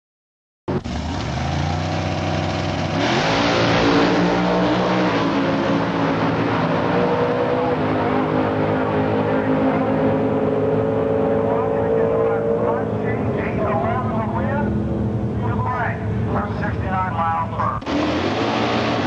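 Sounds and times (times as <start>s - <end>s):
drag cars launching at full throttle: 0.7s - 15.4s, 17.8s - 19.0s
drag car engines revving: 0.7s - 19.0s.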